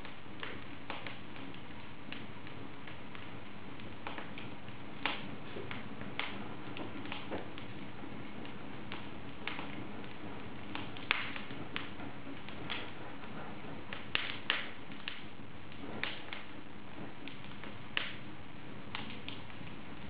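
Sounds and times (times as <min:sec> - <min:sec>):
fire crackling and popping: 0:00.0 - 0:20.0
flame hiss: 0:00.0 - 0:20.0.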